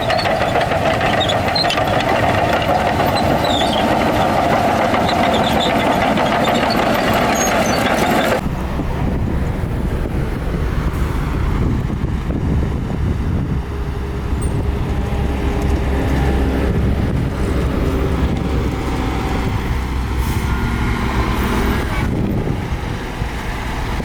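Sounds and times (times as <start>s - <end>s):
diesel machinery engine rumble: 0.0s - 24.0s.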